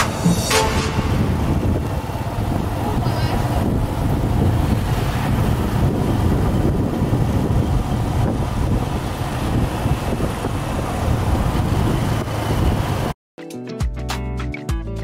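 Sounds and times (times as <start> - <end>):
motorcycle engine running: 0.0 - 13.1
road noise: 0.0 - 13.2
wind noise on microphone: 0.0 - 13.2.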